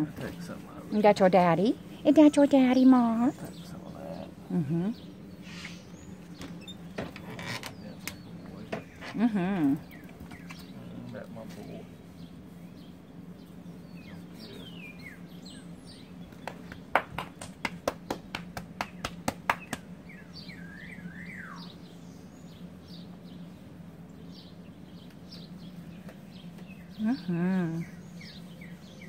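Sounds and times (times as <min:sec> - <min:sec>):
low hum: 0:00.0 - 0:29.0
small birds chirping: 0:00.0 - 0:29.0.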